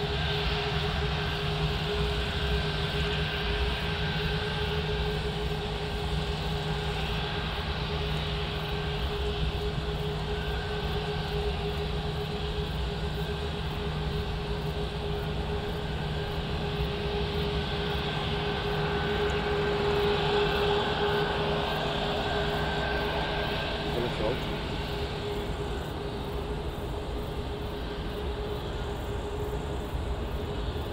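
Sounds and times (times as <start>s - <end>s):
jet engines whining: 0.0s - 30.9s.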